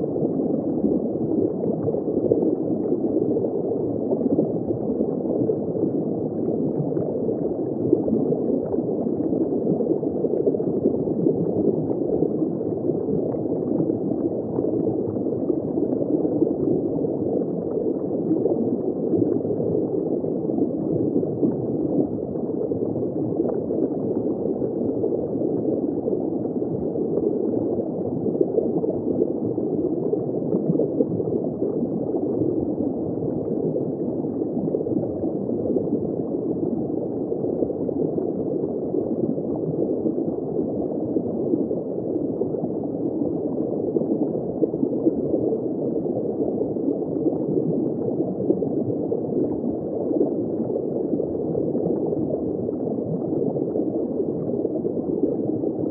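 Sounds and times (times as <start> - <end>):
muffled water gurgling underwater: 0.0 - 55.9.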